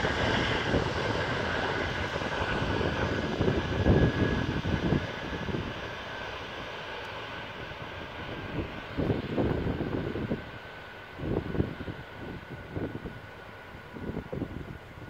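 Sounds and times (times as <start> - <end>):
low gusty rumbles: 0.0 - 6.6, 7.6 - 15.0
jet engines hissing and whining: 0.0 - 15.0.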